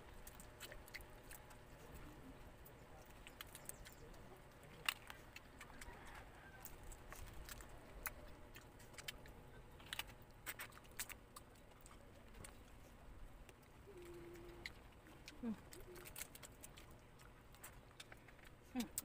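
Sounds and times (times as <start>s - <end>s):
crab shell cracking: 3.0s - 12.7s, 13.4s - 19.0s.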